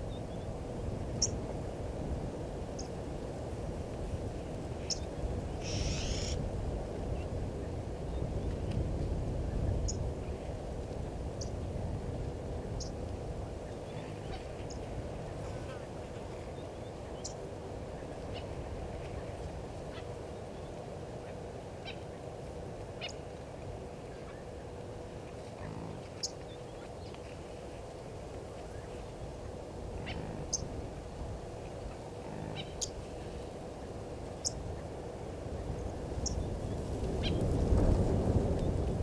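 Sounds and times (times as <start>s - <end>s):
faint hum: 0.0s - 39.0s
low background noise: 0.0s - 39.0s.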